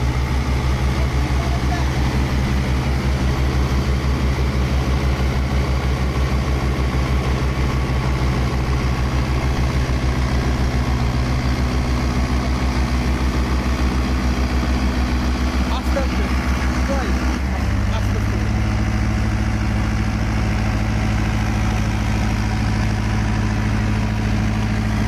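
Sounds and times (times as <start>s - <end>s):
tractor diesel engine throbbing: 0.0s - 25.0s.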